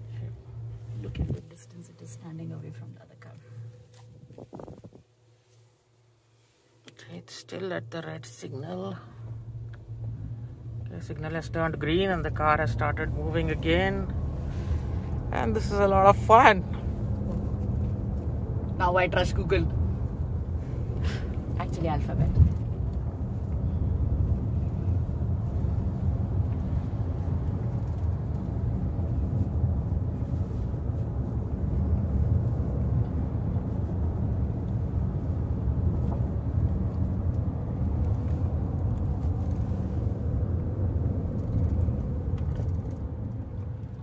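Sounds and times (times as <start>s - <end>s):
car road noise rumble: 0.0s - 44.0s.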